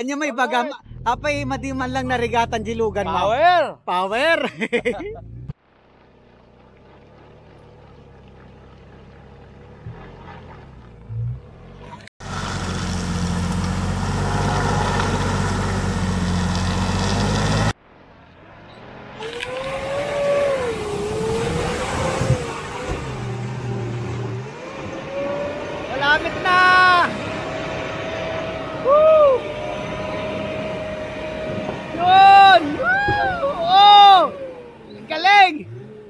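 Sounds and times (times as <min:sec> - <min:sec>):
engine revving under heavy throttle: 0:06.2 - 0:17.8, 0:18.6 - 0:36.0.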